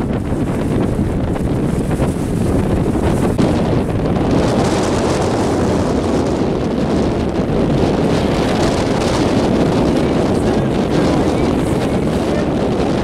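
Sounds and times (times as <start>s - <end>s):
water splashing past hull: 0.0s - 13.0s
wind buffeting microphone: 0.0s - 13.0s.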